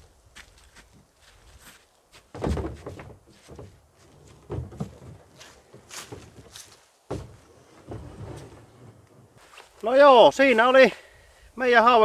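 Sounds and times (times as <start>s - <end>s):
rustles and thumps of footsteps: 0.0s - 10.8s.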